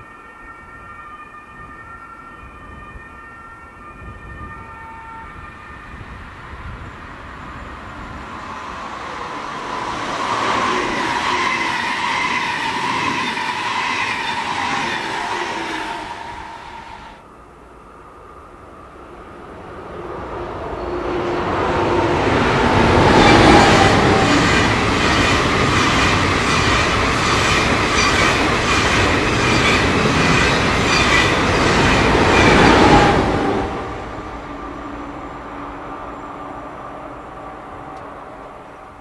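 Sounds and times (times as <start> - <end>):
train passing at speed: 0.0 - 39.0.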